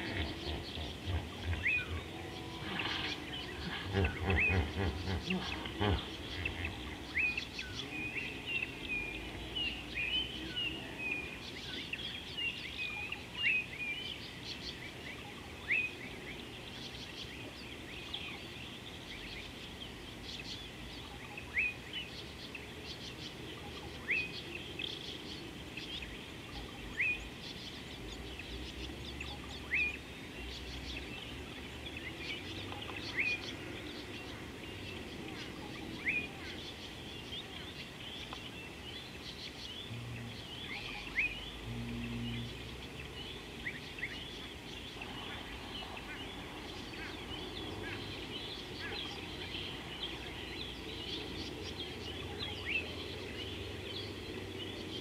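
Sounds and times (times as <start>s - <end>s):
birds chirping: 0.0s - 55.0s
faint outdoor background hum: 0.0s - 55.0s.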